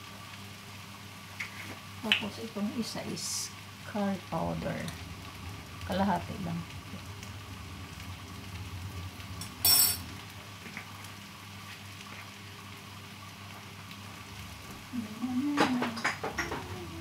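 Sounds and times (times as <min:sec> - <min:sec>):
food frying in a pan: 0:00.0 - 0:17.0
steady low hum: 0:00.0 - 0:17.0.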